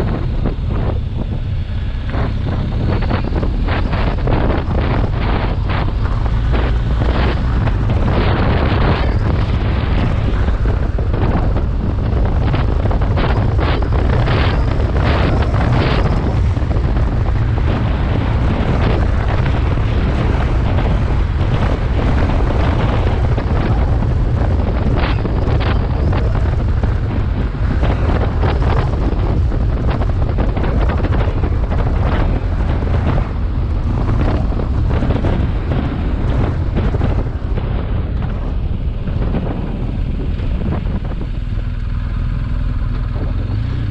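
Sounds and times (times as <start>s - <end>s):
motorcycle engine: 0.0s - 43.9s
wind buffeting microphone: 0.0s - 43.9s.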